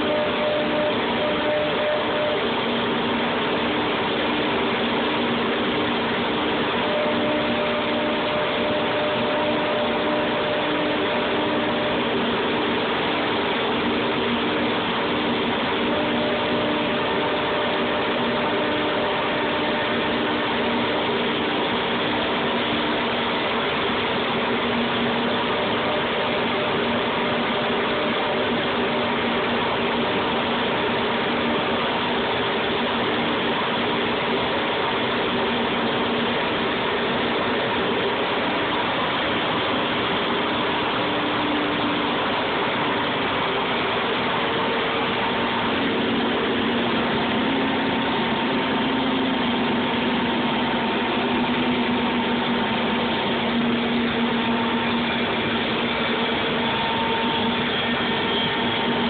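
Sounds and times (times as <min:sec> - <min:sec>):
higher machine tone: 0:00.0 - 0:59.0
router machine running: 0:00.0 - 0:59.0.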